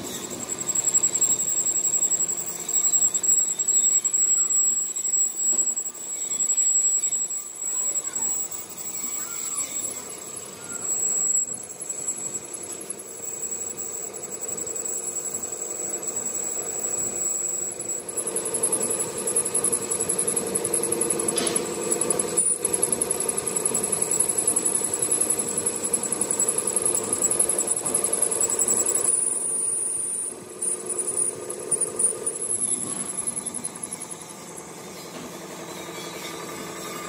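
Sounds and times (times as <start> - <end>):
metal lathe cutting steel: 0.0 - 37.0.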